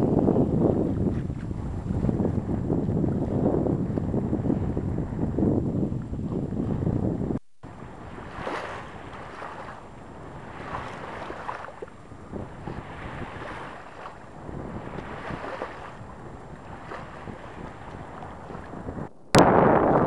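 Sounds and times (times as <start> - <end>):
rush of wind and water: 0.0 - 20.0
wind buffeting microphone: 0.0 - 20.0.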